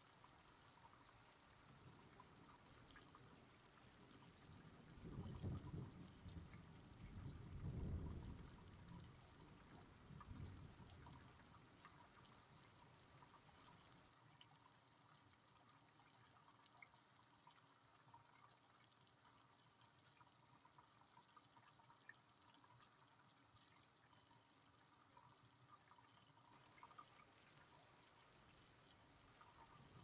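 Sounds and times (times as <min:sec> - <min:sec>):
drips ticking: 0:00.0 - 0:30.0
faint steady rain: 0:00.0 - 0:30.0.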